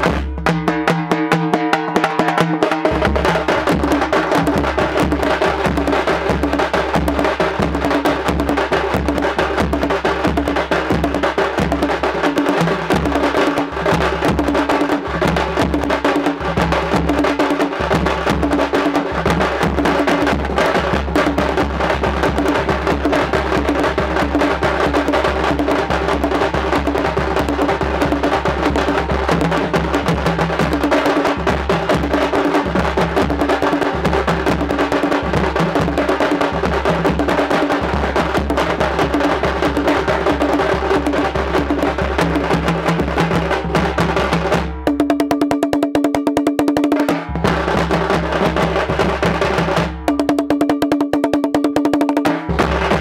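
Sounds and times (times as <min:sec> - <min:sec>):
frame drums and stick drums: 0:00.0 - 0:53.0.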